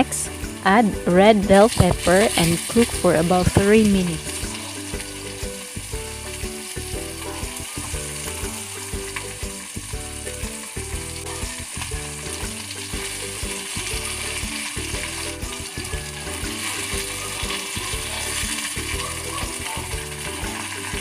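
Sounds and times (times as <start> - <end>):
background music: 0.0 - 21.0
vegetables sizzling in oil: 0.2 - 21.0.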